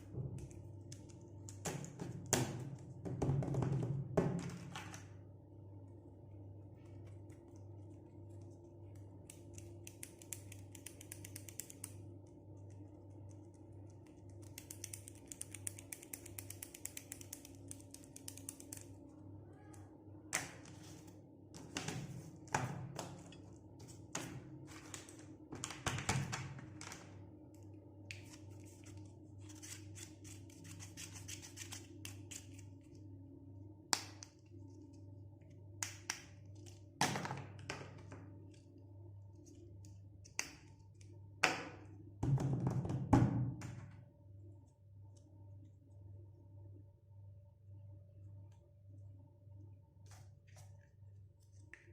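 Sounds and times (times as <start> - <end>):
steady low hum: 0.0 - 3.2, 5.0 - 42.2, 43.8 - 51.9.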